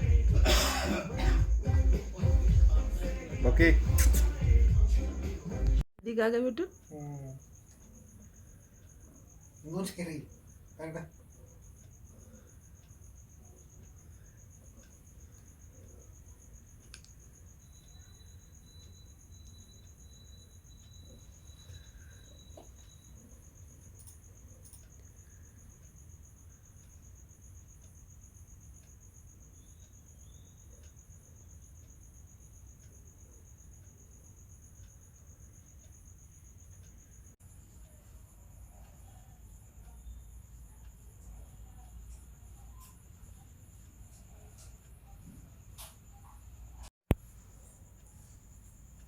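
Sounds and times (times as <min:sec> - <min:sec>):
cricket chirping: 0:00.0 - 0:49.0.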